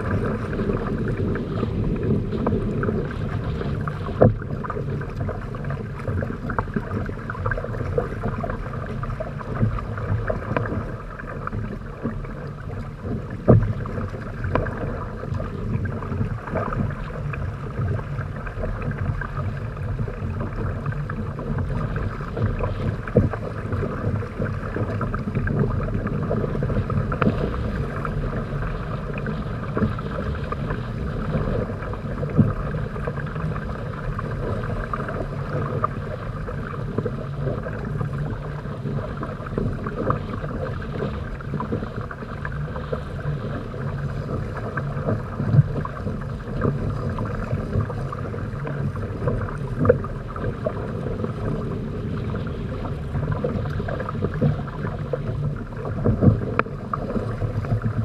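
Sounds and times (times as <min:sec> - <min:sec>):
water rushing along a hull: 0:00.0 - 0:58.0.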